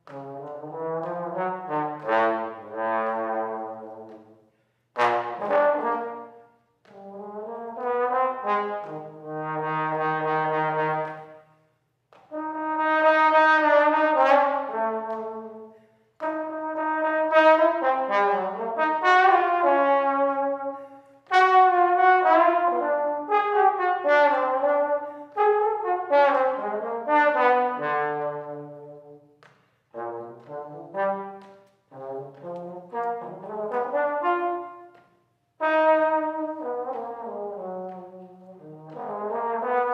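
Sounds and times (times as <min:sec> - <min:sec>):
trombone solo: 0:00.1 - 0:04.2, 0:05.0 - 0:06.4, 0:07.0 - 0:11.4, 0:12.3 - 0:29.2, 0:29.9 - 0:34.9, 0:35.6 - 0:39.9.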